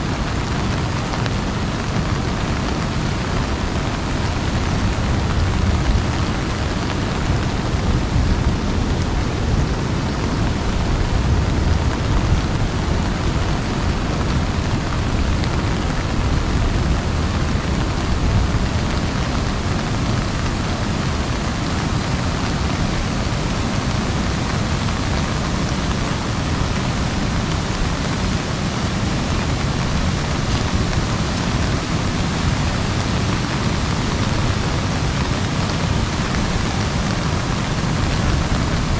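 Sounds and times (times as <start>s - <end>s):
rain on an umbrella: 0.0s - 38.9s.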